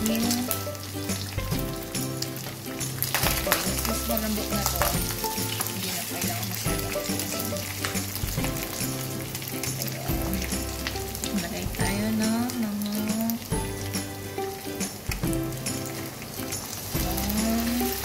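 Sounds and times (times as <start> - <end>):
background music: 0.0 - 18.0
meat sizzling in a pan: 0.0 - 18.0.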